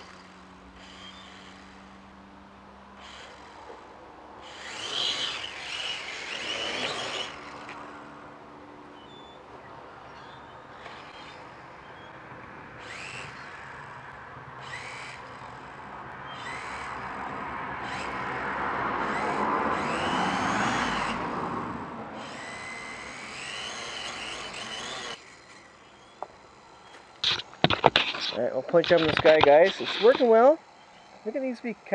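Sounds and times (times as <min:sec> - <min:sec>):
quadcopter motors whining: 0:00.0 - 0:31.9.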